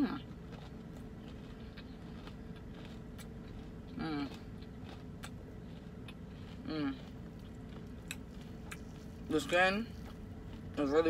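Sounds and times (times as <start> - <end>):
low background hum: 0.0 - 11.0
person chewing crunchy food: 0.0 - 11.0.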